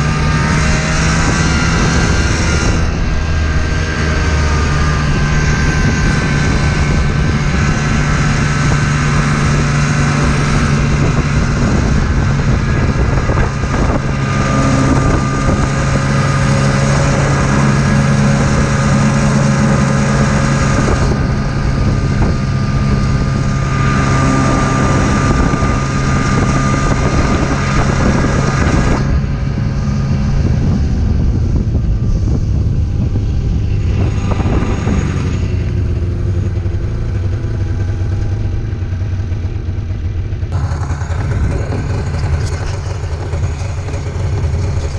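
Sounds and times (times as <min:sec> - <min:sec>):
snowmobile engine running: 0:00.0 - 0:44.9
wind rushing over microphone: 0:00.0 - 0:44.9.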